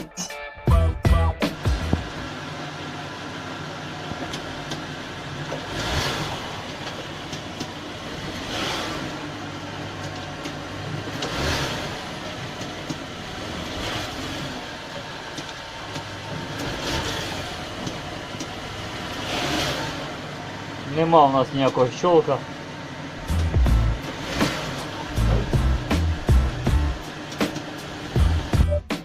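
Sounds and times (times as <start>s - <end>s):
car driving road rumble: 1.1s - 28.7s.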